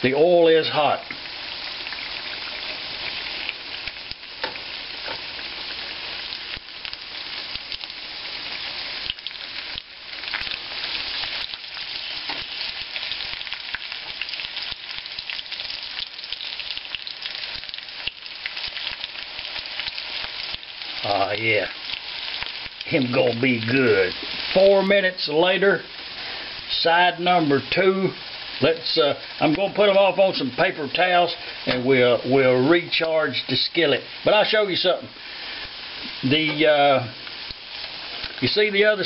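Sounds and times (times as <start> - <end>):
crab cakes sizzling in oil: 0.0 - 39.0.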